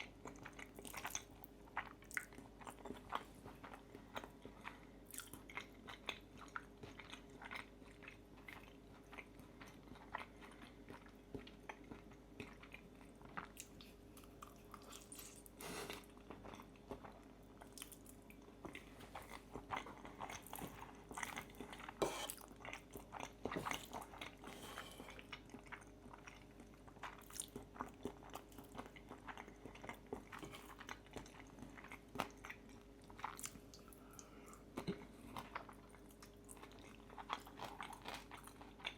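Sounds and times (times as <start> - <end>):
faint steady hum: 0.0 - 38.9
person chewing food: 0.0 - 38.9.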